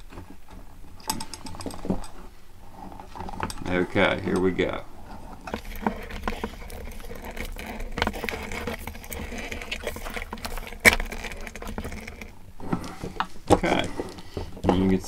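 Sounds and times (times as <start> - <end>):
cord rubbing against metal: 0.0 - 15.0.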